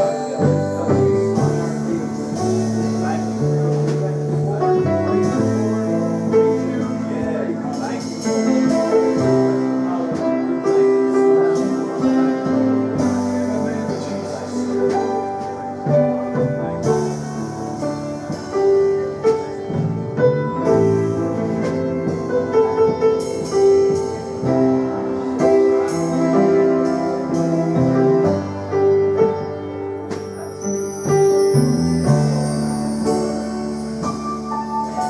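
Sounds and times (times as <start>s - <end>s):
instrumental keyboard music: 0.0s - 35.0s.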